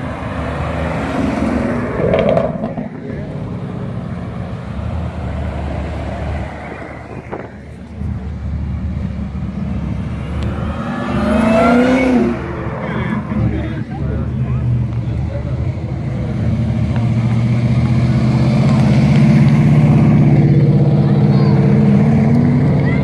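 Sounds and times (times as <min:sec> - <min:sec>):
car engines rumbling: 0:00.0 - 0:23.0.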